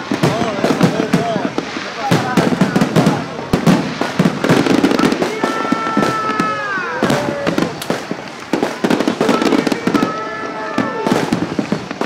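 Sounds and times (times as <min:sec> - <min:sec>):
fireworks cracks and bangs: 0:00.0 - 0:12.0
high firework whistle: 0:00.0 - 0:12.0.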